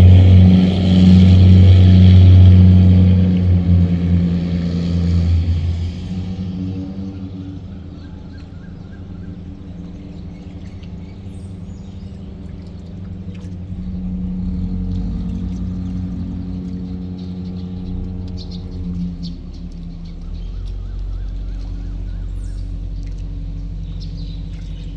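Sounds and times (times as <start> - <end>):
birds chirping faintly: 0.0 - 24.9
boat engine humming: 0.0 - 24.9.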